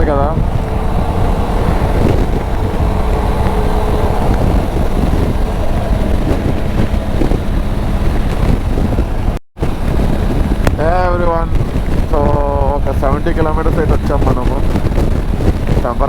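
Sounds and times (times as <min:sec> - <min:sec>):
highway traffic: 0:00.0 - 0:16.0
motorcycle engine running: 0:00.0 - 0:16.0
wind rushing over microphone: 0:00.0 - 0:16.0.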